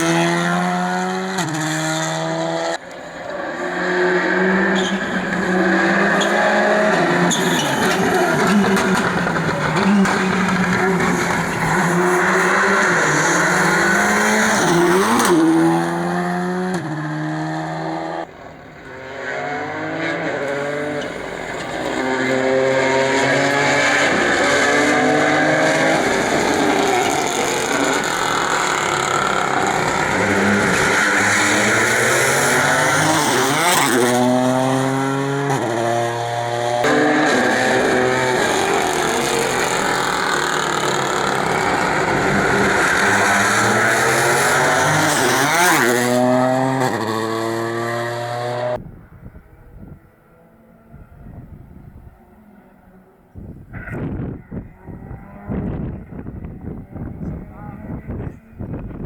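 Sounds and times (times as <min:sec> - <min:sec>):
rally cars passing at full throttle: 0:00.0 - 0:59.0.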